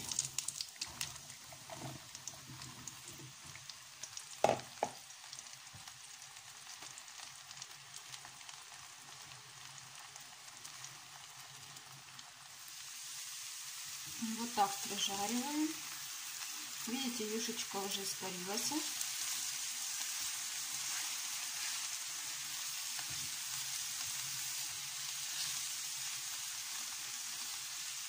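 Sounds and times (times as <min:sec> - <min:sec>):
mushrooms sizzling in butter: 0:00.0 - 0:28.0.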